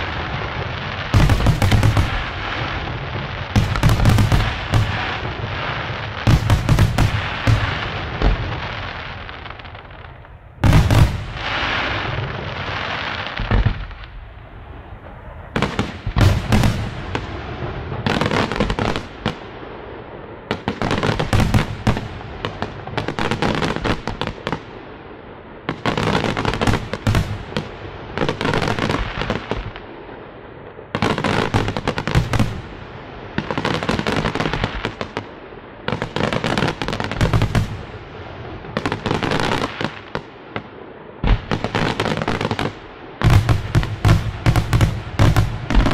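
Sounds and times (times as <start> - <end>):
firework crackling: 0.0 - 24.9, 25.6 - 45.9.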